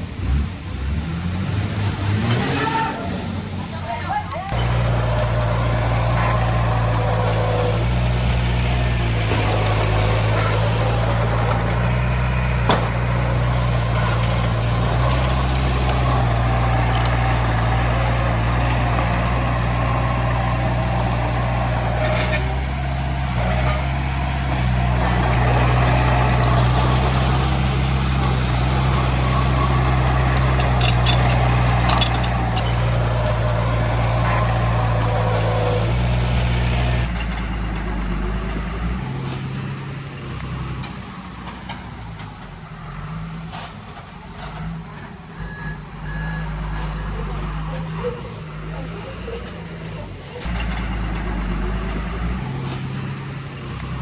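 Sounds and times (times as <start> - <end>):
heavy diesel engine running: 3.4 - 54.0.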